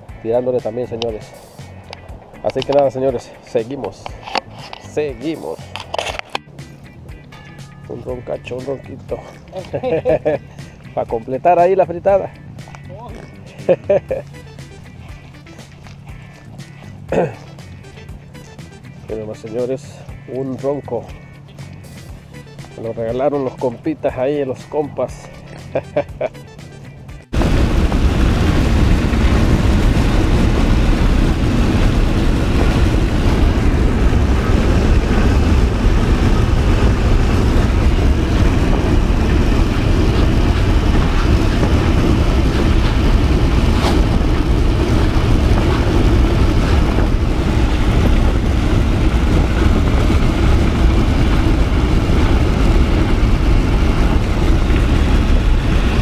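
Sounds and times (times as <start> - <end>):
car road and wind noise: 0.0 - 26.3, 26.9 - 56.0.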